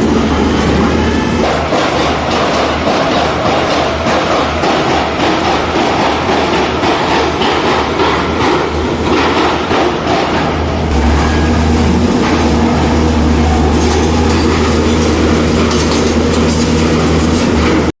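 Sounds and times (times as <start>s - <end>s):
low engine drone: 0.0s - 6.7s, 8.7s - 17.9s
train rumbling on rails: 0.0s - 17.9s.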